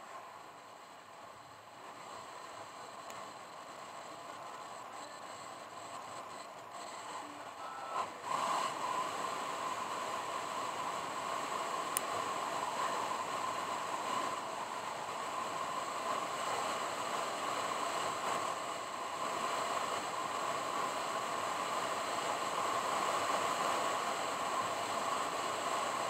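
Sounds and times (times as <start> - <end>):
car road and wind noise: 0.0 - 26.0.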